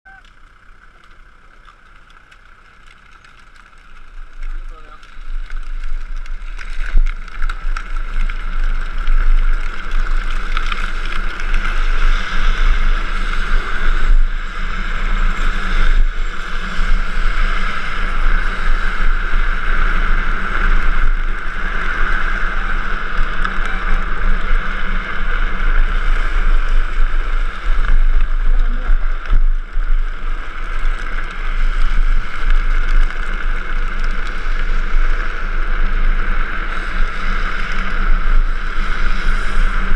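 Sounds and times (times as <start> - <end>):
plastic wheels scraping on asphalt: 0.1 - 39.9.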